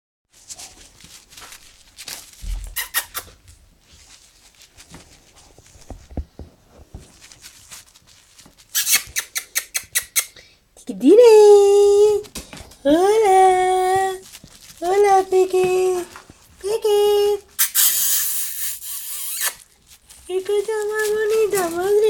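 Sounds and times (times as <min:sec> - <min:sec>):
puppies rustling on pads: 0:00.3 - 0:09.4, 0:11.4 - 0:17.6, 0:18.2 - 0:22.0.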